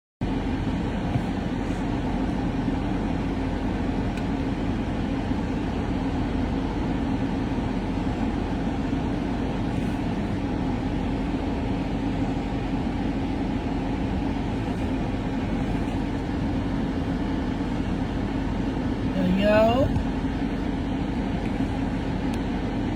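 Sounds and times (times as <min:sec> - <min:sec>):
vehicle rumble inside car: 0:00.2 - 0:22.9.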